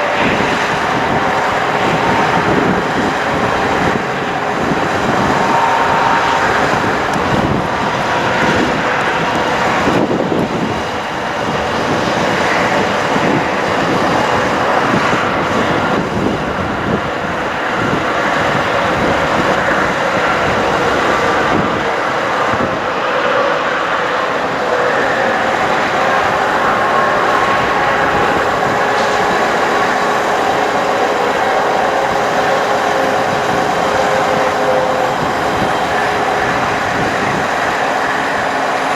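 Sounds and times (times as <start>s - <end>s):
rush of wind-like noise: 0.0s - 38.9s
truck engine running: 0.0s - 38.9s.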